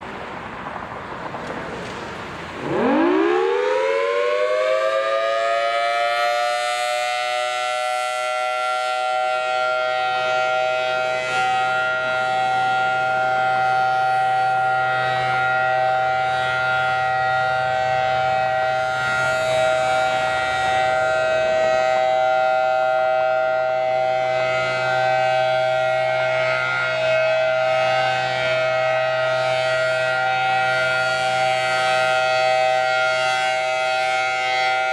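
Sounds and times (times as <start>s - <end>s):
warning siren rising to steady tone: 2.6s - 34.9s.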